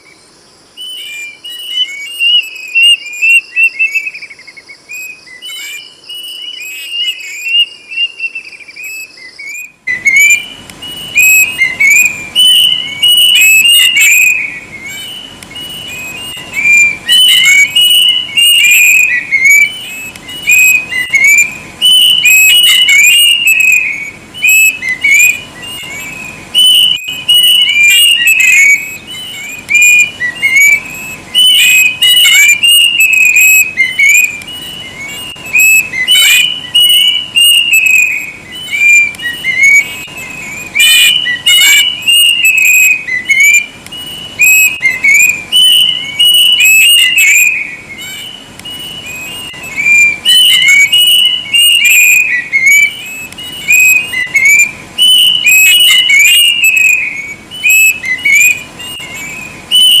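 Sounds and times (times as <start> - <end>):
cuckoo whistled song: 0.0 - 60.0.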